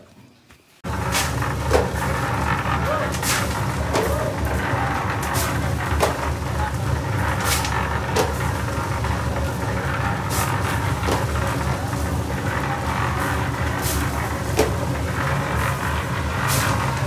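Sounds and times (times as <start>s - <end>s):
engine running: 0.8s - 17.0s
shovels scraping concrete pans: 0.9s - 17.0s.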